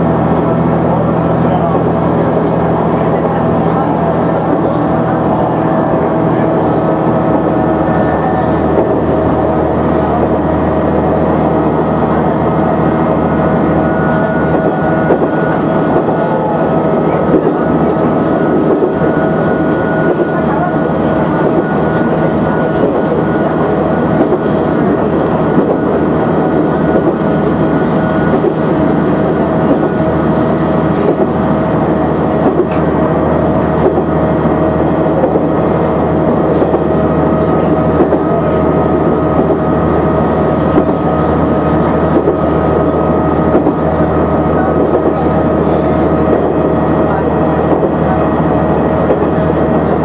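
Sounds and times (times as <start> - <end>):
diesel railcar engine drone: 0.0 - 50.0.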